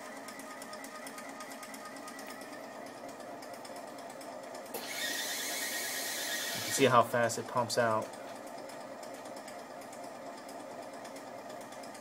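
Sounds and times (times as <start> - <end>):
pump rapid rhythmic ticking: 0.0 - 12.0.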